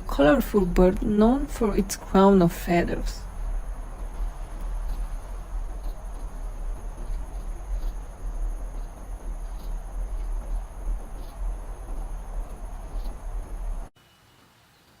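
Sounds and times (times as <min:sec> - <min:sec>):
constant low rumble: 0:00.0 - 0:13.9
crickets trilling: 0:00.0 - 0:13.9.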